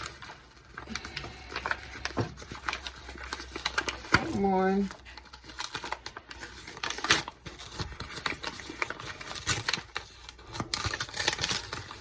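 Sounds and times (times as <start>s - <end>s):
bag crinkling and rustling: 0.0s - 12.0s
paper bag tearing open: 0.0s - 12.0s.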